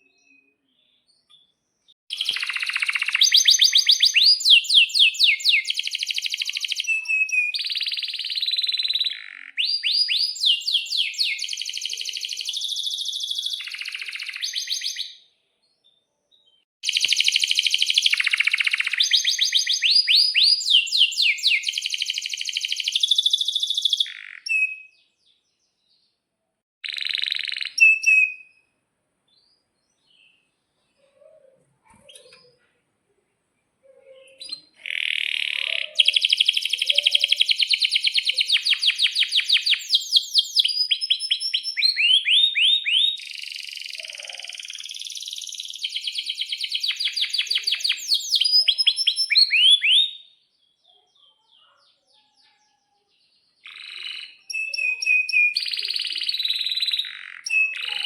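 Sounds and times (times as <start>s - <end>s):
canary singing trills: 0.0s - 15.2s, 15.9s - 26.1s, 26.8s - 28.7s, 33.8s - 58.0s.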